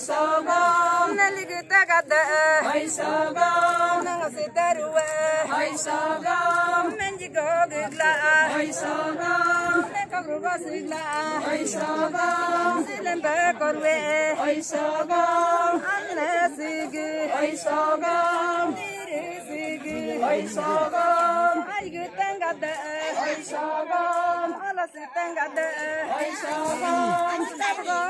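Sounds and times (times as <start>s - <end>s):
women singing a chant: 0.0s - 28.0s.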